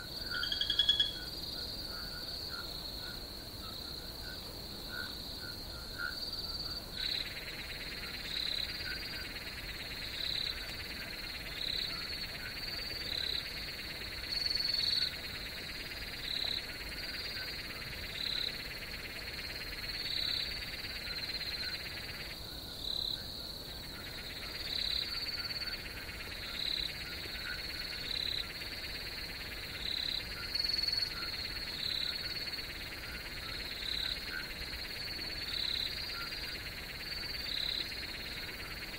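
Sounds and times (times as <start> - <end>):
crickets trilling: 0.0 - 38.9
frogs chorus calling: 0.0 - 38.9.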